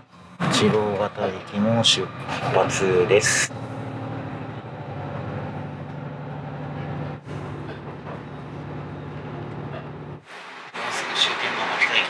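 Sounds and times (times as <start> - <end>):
rail and wheel noise: 0.0 - 12.0
train low hum: 0.0 - 12.0.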